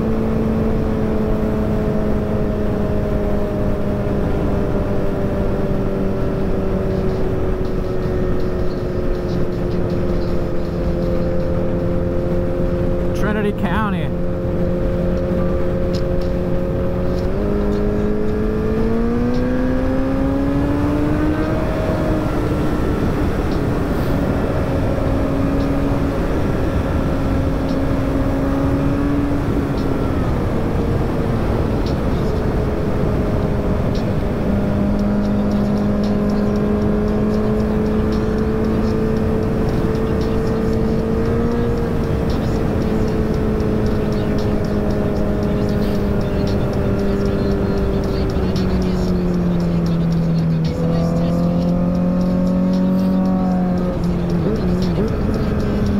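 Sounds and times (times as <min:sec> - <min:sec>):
motorcycle engine at speed: 0:00.0 - 0:13.3, 0:14.1 - 0:55.9.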